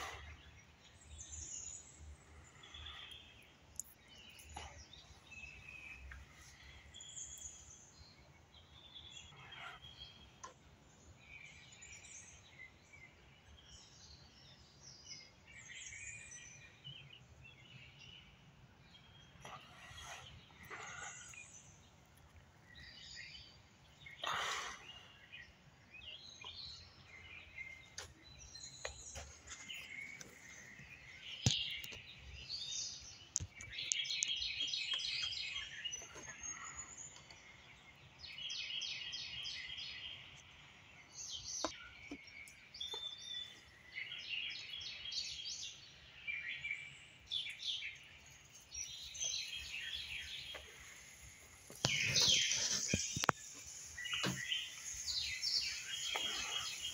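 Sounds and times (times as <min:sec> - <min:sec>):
birds singing: 0:00.0 - 0:56.9.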